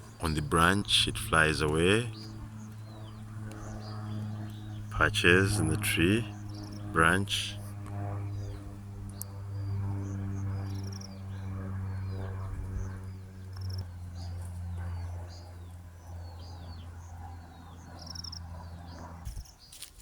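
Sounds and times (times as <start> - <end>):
low steady drone: 0.0 - 19.2
small birds chirping: 0.0 - 20.0.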